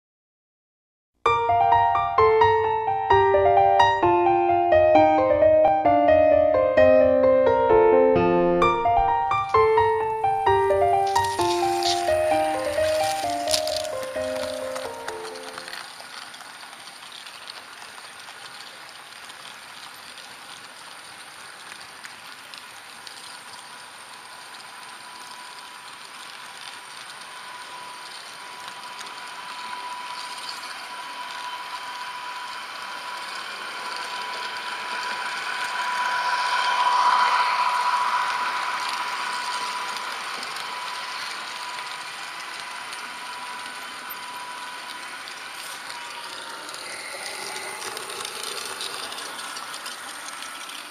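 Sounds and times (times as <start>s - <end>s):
wheels rattling on track: 9.6s - 50.9s
model train motor whining: 10.2s - 50.9s.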